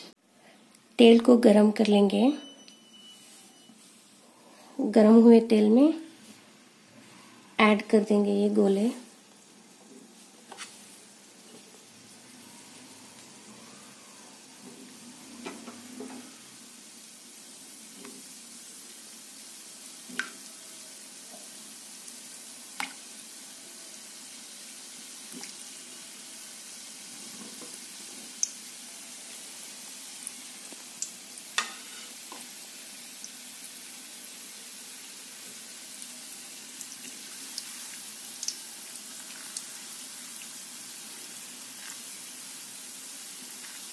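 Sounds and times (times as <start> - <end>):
dough sizzling in hot oil: 7.4 - 43.9.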